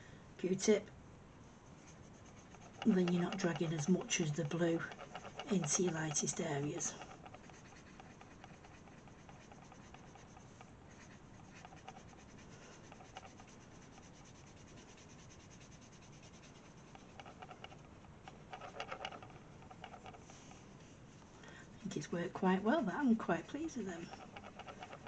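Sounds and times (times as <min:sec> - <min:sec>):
cotton bud rubbing on paper: 0:01.4 - 0:25.0.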